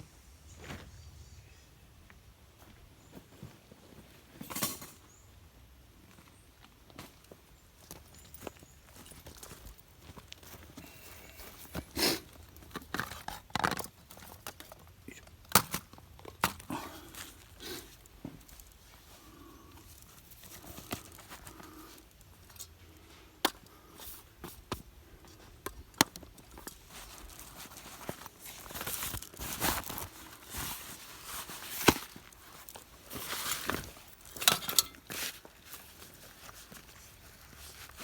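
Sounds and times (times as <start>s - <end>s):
hands rustling and crinkling: 6.2s - 38.0s.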